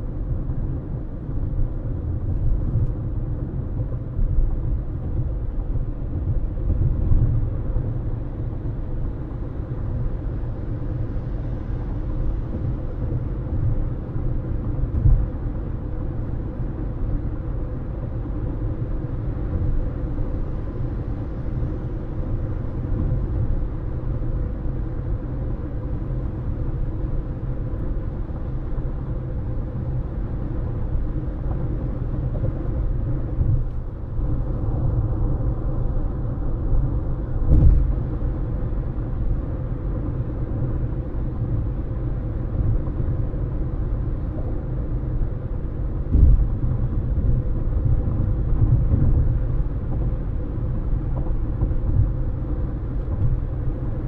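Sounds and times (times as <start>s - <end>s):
road rumble and tyre noise: 0.0s - 54.0s.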